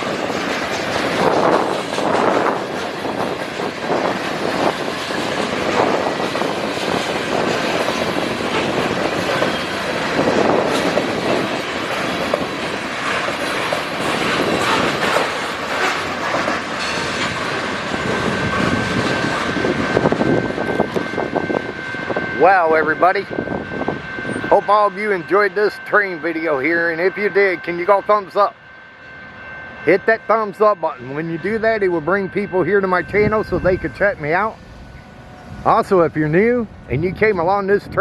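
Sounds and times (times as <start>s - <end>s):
freight train wheels clacking: 0.0s - 35.5s.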